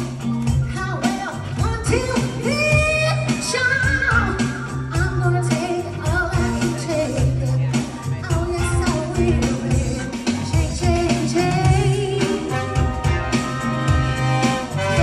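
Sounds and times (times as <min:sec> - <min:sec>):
band playing soul music: 0:00.0 - 0:15.0
woman singing: 0:00.7 - 0:13.0.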